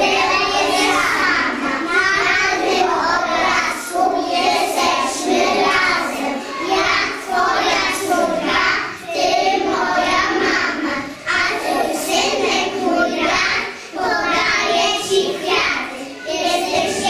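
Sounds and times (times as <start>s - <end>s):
children singing in chorus: 0.0s - 17.0s.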